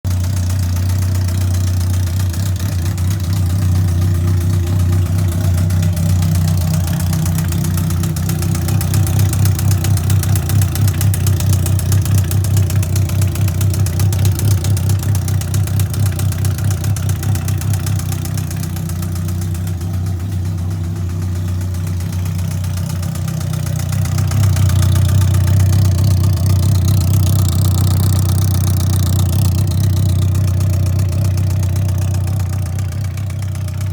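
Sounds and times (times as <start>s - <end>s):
fast engine knocking: 0.0s - 33.9s
motorcycle engine idling: 0.1s - 33.9s.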